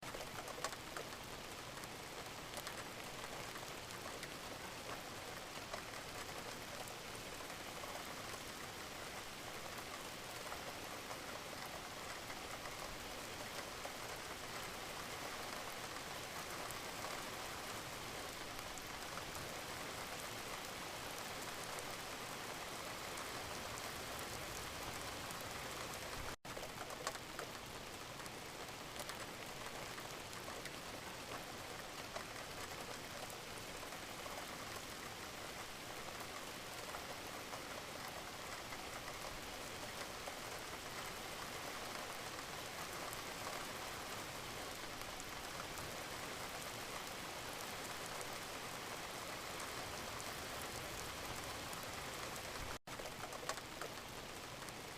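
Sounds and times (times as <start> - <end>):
gentle rain pattering: 0.0 - 54.9.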